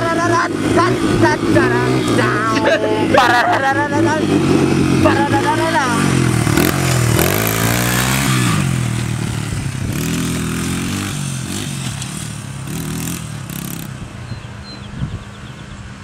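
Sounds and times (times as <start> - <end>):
small motorbike engine revving: 0.0 - 14.6.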